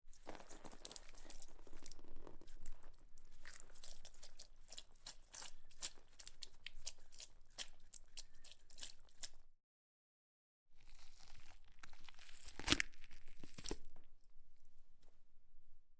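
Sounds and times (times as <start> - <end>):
wet crackles and squelches: 0.0 - 9.5, 10.8 - 14.4.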